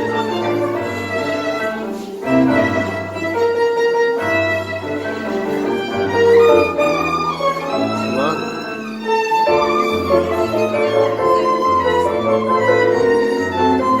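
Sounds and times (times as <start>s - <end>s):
piano: 0.0s - 14.0s
violin melody: 0.0s - 14.0s.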